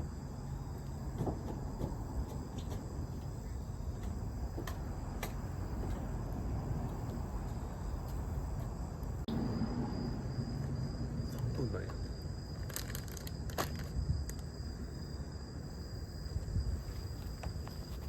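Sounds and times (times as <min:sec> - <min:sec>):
insects chirping: 0:00.0 - 0:18.0
steady high insect tone: 0:00.0 - 0:18.0.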